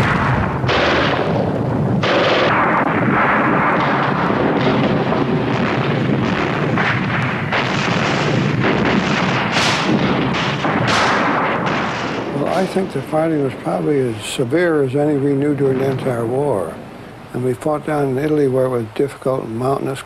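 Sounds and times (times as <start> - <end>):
gunfire: 0.0 - 17.2
explosions: 0.0 - 18.6.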